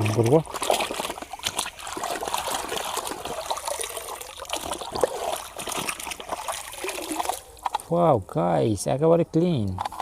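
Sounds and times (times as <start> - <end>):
water trickling and spattering: 0.0 - 8.3.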